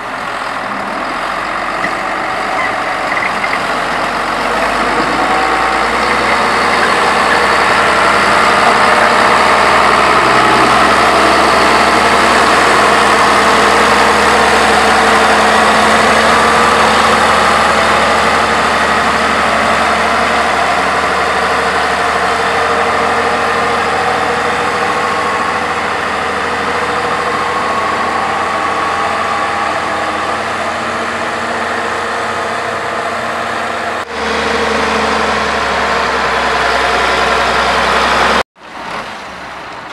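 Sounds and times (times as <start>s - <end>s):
diesel construction machinery running: 0.0s - 39.9s.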